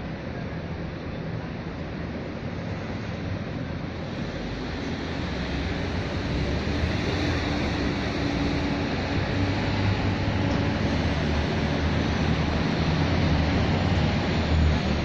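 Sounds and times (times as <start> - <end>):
outdoor rushing noise: 0.0 - 15.0.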